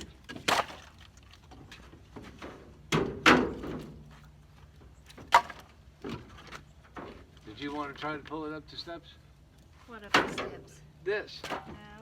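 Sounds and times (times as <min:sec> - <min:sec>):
firewood knocking and thudding: 0:00.0 - 0:08.4, 0:10.0 - 0:10.7, 0:11.3 - 0:12.0.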